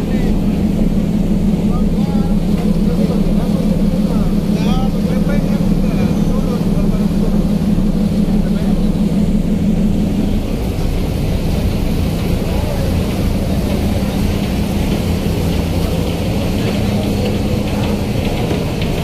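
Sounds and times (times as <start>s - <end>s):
ferry engines droning: 0.0s - 19.0s.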